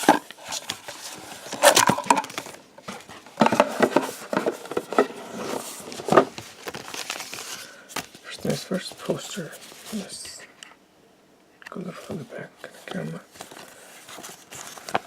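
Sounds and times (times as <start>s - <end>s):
cardboard packaging rustling: 0.0s - 10.4s, 12.8s - 15.0s.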